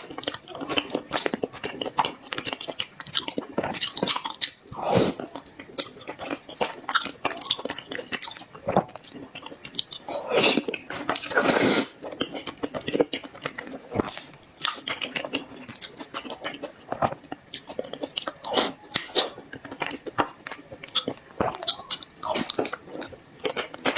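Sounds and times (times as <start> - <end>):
person chewing sticky food: 0.0 - 23.9.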